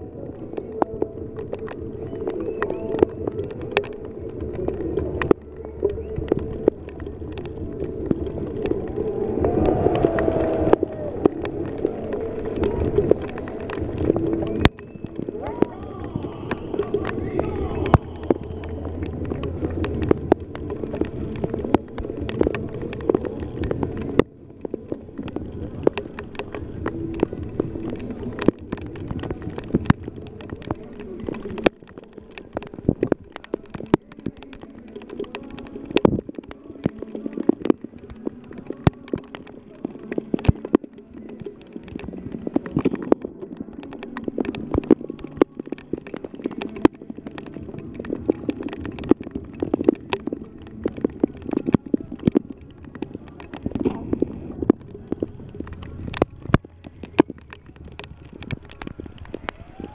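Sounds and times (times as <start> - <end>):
crowd chattering and cheering: 0.0 - 59.9.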